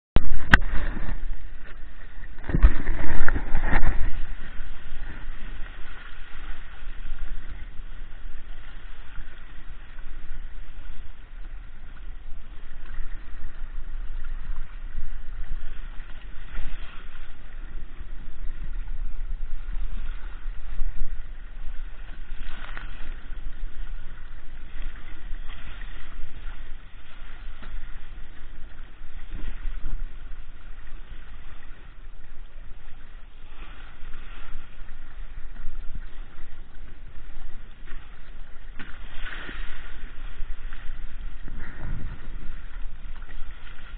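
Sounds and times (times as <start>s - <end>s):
water splashing along hull: 0.2s - 43.9s
wind rumble on microphone: 0.2s - 43.9s.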